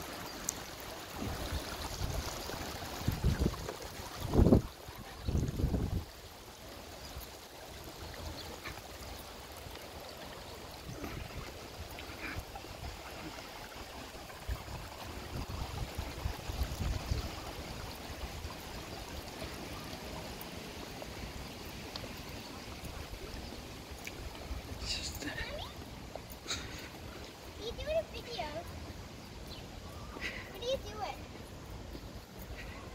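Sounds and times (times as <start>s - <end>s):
river water running: 0.0s - 32.9s.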